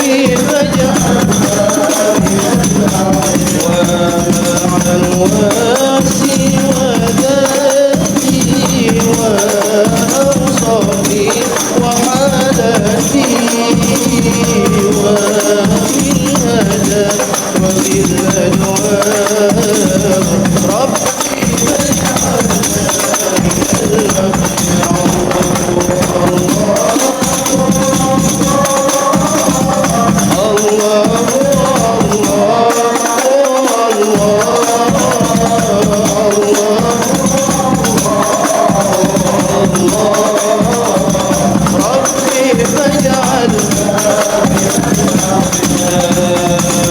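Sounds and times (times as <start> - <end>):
hand-struck frame drums: 0.0 - 46.9
person singing devotional melody: 0.0 - 46.9.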